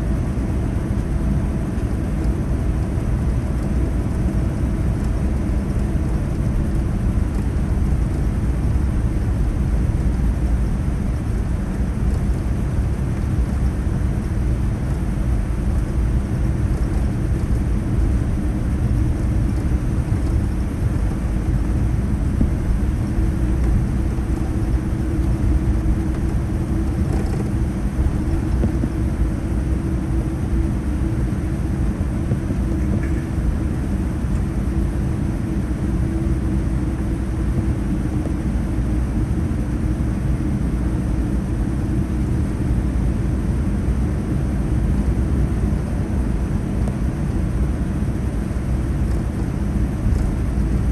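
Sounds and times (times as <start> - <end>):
aircraft cabin rumble: 0.0 - 50.9.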